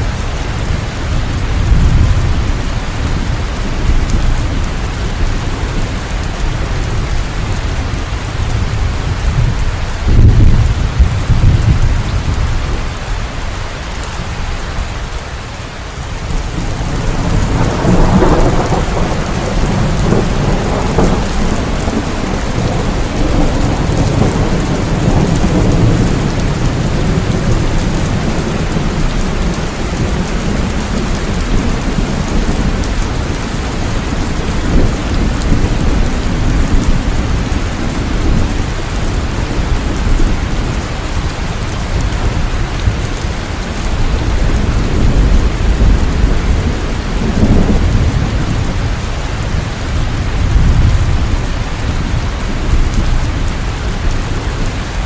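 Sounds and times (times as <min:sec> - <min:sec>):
thunder rumbling: 0:00.0 - 0:15.1, 0:16.0 - 0:55.0
heavy rain falling: 0:00.0 - 0:55.0.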